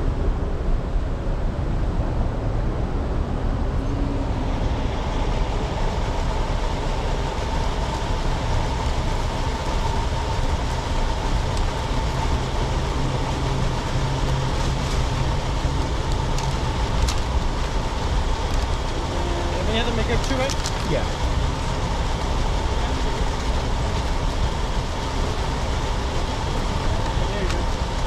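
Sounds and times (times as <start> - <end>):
car engine idling: 2.2 - 28.0.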